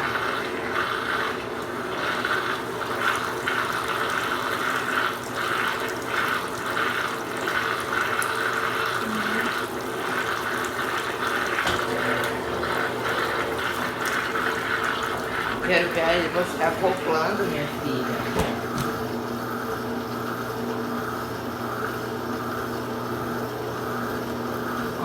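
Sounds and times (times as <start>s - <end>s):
faint motor hum: 0.0s - 25.0s
water rushing in washing machines: 0.0s - 25.0s.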